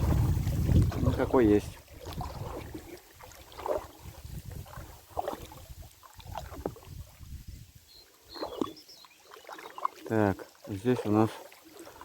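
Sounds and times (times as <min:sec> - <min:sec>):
oars dipping in water: 0:00.0 - 0:12.0.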